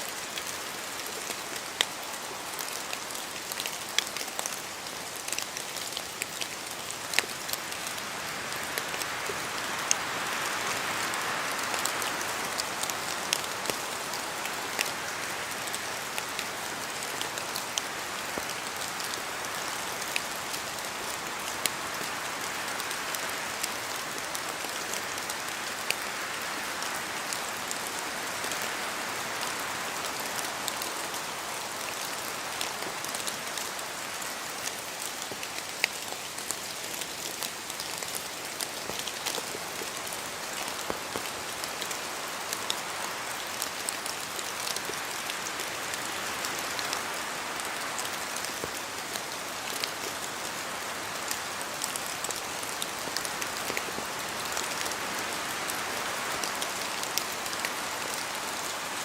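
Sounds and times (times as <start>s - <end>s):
rain hissing in forest: 0.0s - 59.0s.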